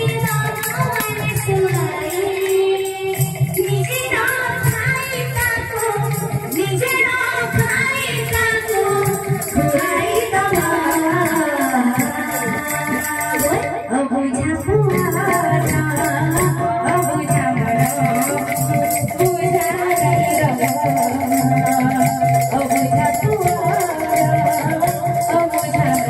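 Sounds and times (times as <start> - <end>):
jingling metal percussion: 0.0 - 26.0
woman singing into a microphone: 0.0 - 26.0.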